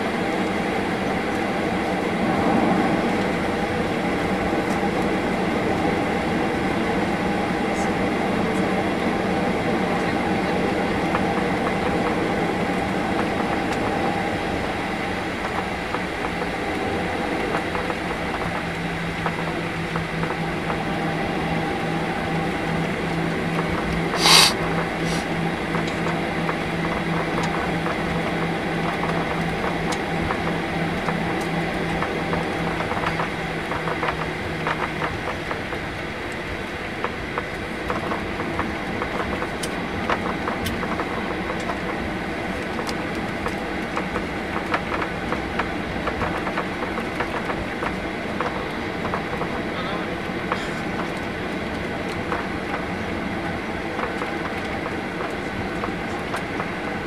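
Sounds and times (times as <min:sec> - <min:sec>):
airframe rolling rumble: 0:00.0 - 0:57.0
jet engines humming: 0:00.0 - 0:57.0
low drone: 0:00.0 - 0:57.0.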